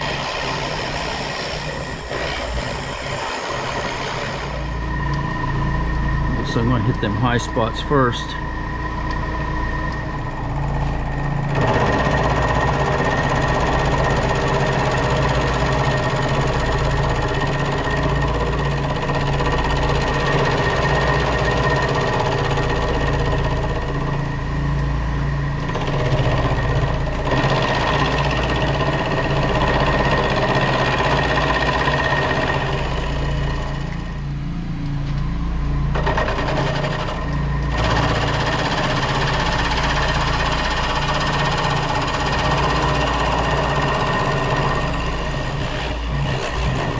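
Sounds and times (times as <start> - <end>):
cutter cutting metal: 0.0 - 8.5, 9.1 - 24.3, 25.6 - 34.2, 35.9 - 46.9
milling machine motor whine: 0.0 - 46.9.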